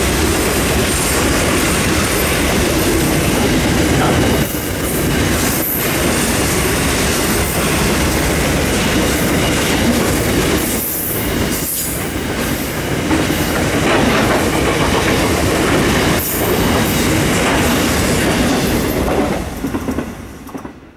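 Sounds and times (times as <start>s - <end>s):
train wheels clattering over rail joints: 0.1s - 20.8s.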